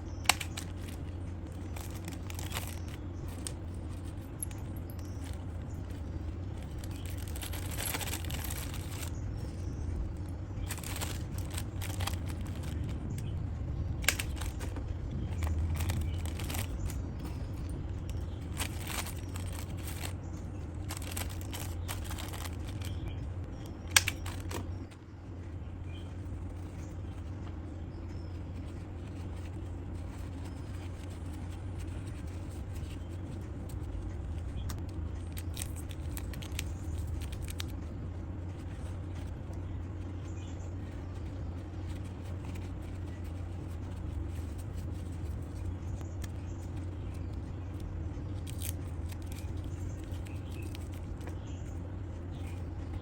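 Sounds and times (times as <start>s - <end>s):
handling clicks and knocks: 0.0s - 25.1s, 25.9s - 53.0s
low hum: 0.0s - 53.0s
rustling: 0.0s - 53.0s.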